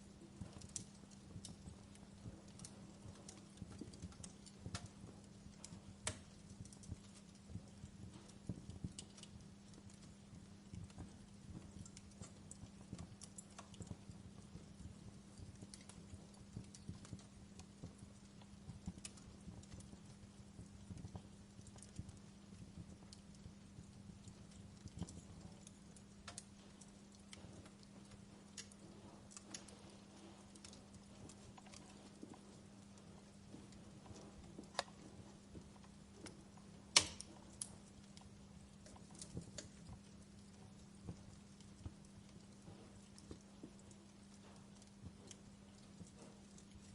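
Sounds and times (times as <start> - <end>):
fireplace fire crackling: 0.0 - 46.9
low steady hum: 0.0 - 46.9.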